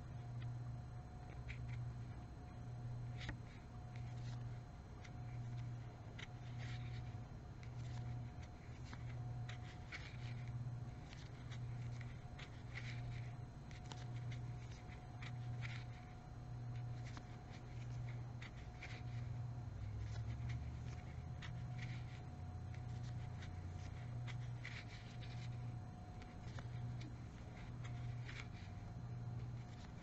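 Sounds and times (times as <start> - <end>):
crochet hook scratching yarn: 0.0 - 30.0
low pulsing hum: 0.0 - 30.0.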